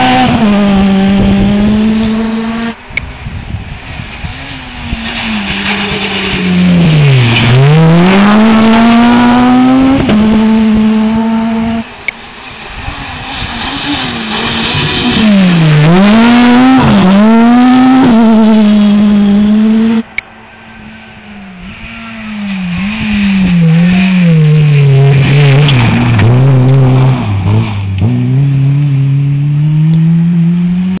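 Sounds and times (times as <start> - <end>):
rally car approaching: 0.0 - 31.0
rally car engines at full throttle: 0.0 - 31.0.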